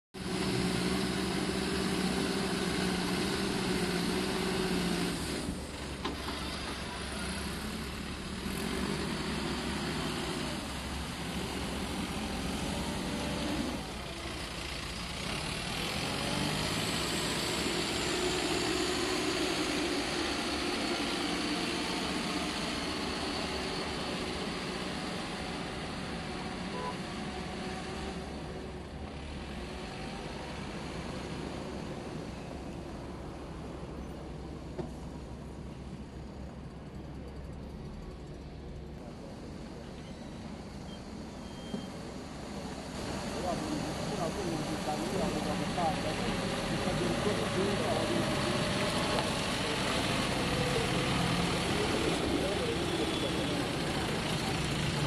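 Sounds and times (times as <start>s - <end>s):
diesel engine running: 0.2s - 55.0s.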